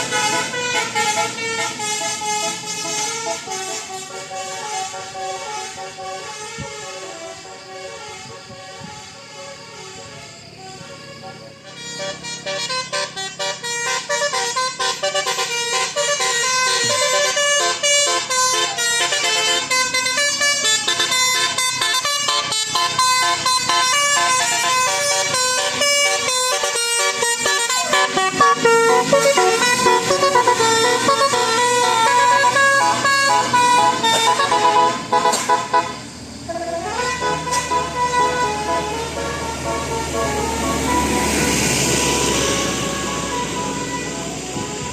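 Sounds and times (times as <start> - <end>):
musical bus horn melody: 0.0 - 44.9.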